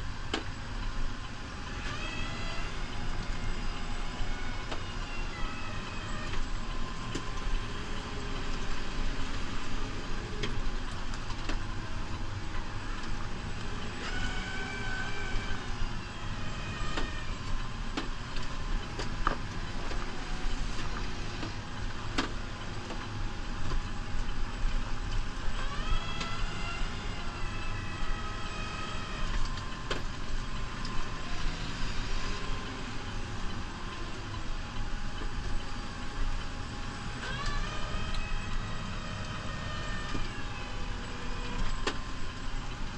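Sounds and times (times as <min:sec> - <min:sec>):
rising whine: 0:00.0 - 0:42.9
tractor diesel engine running: 0:00.0 - 0:42.9.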